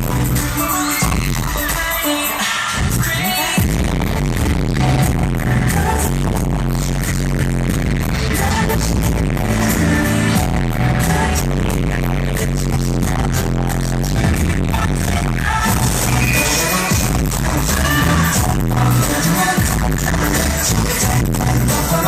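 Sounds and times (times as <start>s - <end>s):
loud distorted live pop music: 0.0s - 22.0s.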